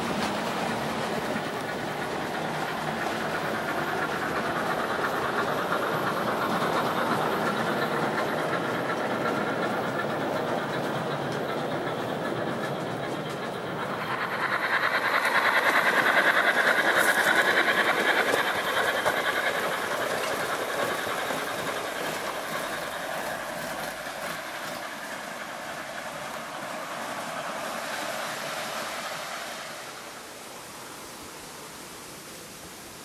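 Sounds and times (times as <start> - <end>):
model train wheels clacking: 0.0 - 29.2.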